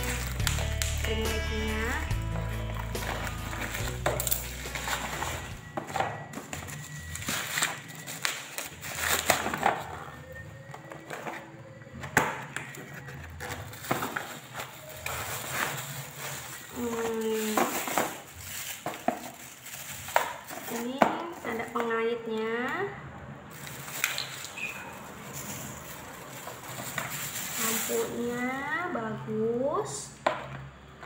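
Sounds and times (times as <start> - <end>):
plastic crinkling and rustling: 0.0 - 1.2, 2.3 - 21.9, 23.5 - 28.9.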